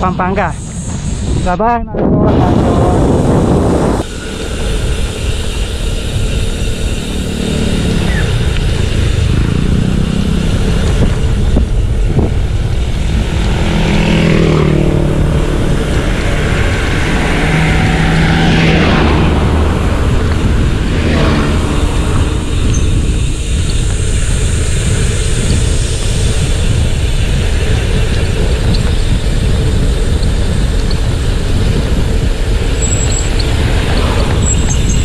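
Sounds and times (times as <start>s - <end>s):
bicycle road rumble: 0.0s - 35.0s
wind: 0.0s - 35.0s
motor vehicles passing: 2.1s - 35.0s.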